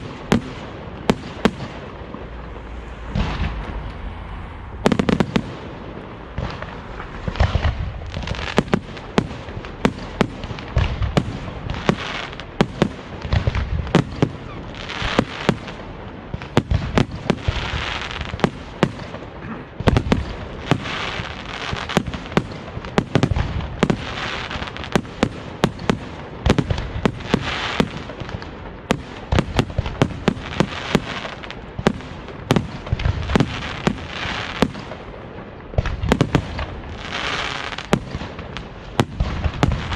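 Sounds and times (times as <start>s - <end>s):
fireworks crackling: 0.0s - 39.9s.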